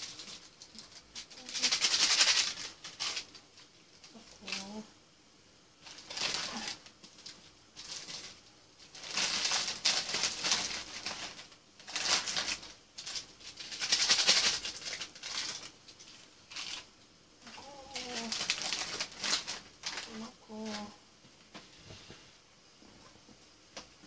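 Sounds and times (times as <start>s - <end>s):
plastic packet crinkling: 0.0s - 4.8s, 5.8s - 20.9s.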